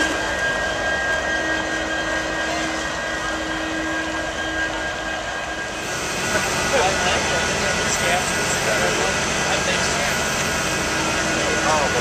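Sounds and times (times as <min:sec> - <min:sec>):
blower noise: 0:00.0 - 0:12.0
constant whining tones: 0:00.0 - 0:12.0
locomotive engine idling rumble: 0:00.0 - 0:12.0.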